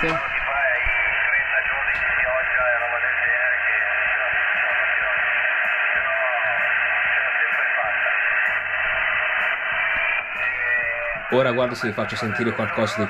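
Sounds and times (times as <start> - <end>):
faint garbled radio voices: 0.0 - 13.0
radio static hiss: 0.0 - 13.0.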